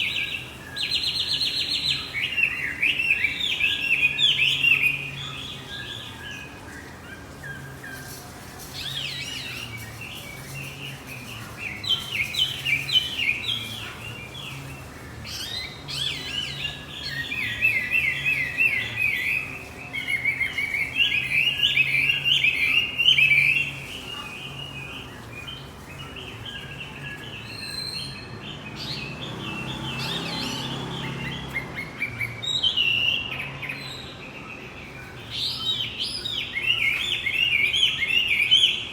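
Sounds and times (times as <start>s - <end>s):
songbird singing rapid chirps: 0.0s - 38.9s.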